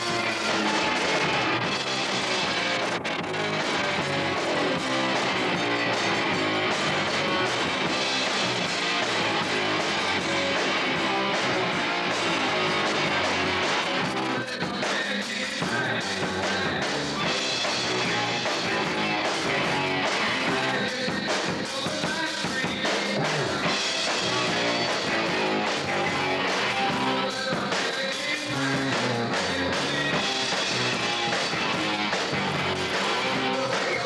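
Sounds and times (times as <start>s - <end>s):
drum kit: 0.0s - 34.0s
electric guitar: 0.0s - 34.0s
rock band playing live: 0.0s - 34.0s.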